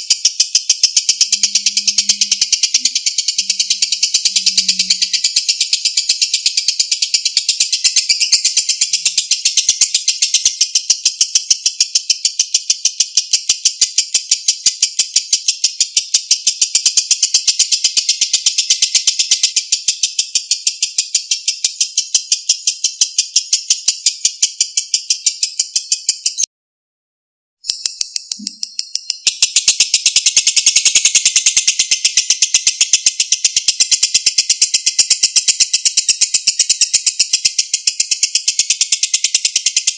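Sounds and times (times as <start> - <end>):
lovebird chattering chirps: 0.0 - 26.5, 27.7 - 39.9.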